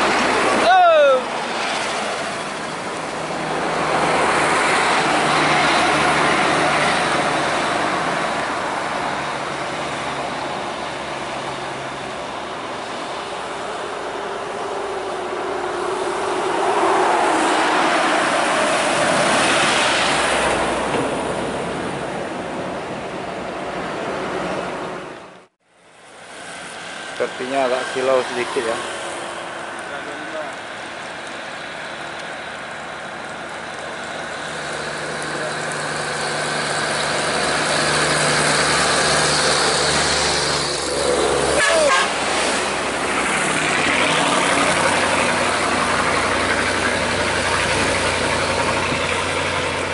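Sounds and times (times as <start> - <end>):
bus and trucks driving past: 0.0 - 49.9
heavy traffic passing: 0.0 - 49.9.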